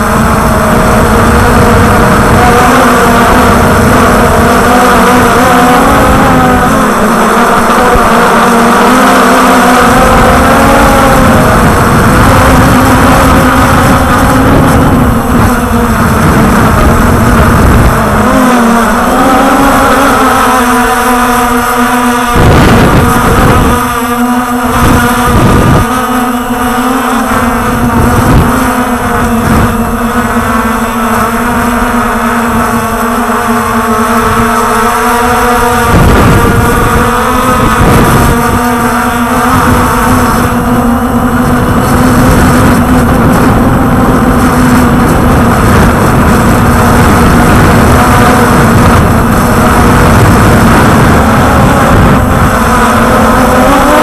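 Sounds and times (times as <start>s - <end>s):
drone motors and propellers whining: 0.0s - 54.0s
wind rumble on microphone: 0.0s - 54.0s.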